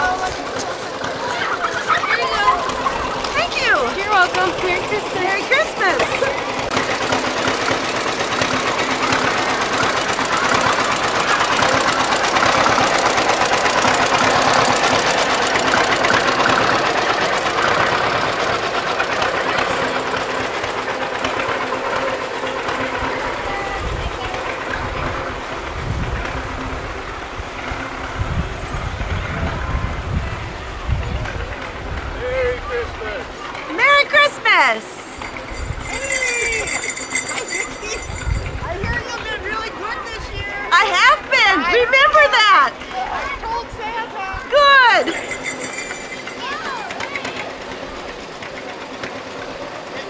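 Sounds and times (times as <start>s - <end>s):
people's voices: 0.0s - 50.0s
tractor engine running: 0.0s - 50.0s.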